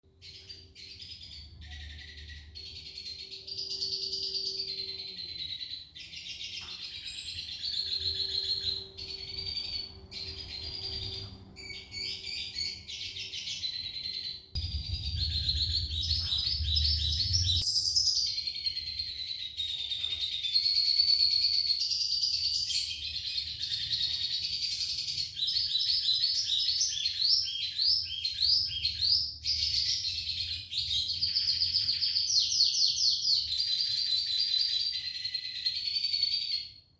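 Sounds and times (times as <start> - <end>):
bird song trills and twitters: 0.1 - 36.9.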